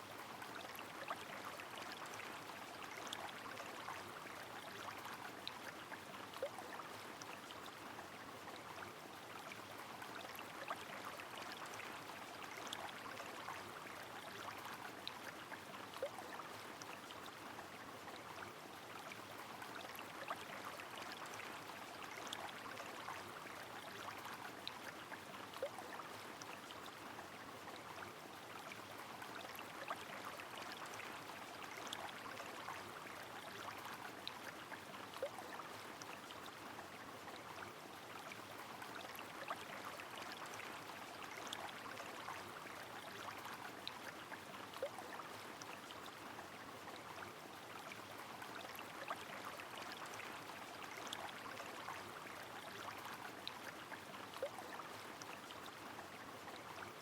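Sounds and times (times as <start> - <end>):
rain: 0.0 - 57.0
river running: 0.0 - 57.0.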